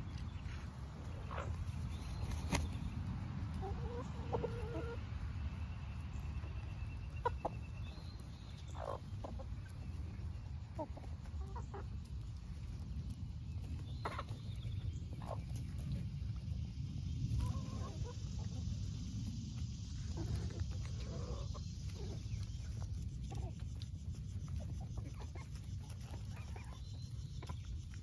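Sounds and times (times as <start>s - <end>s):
hens clucking softly: 0.1s - 5.5s, 6.1s - 16.1s, 17.3s - 28.0s
steady low rumble: 5.0s - 28.0s.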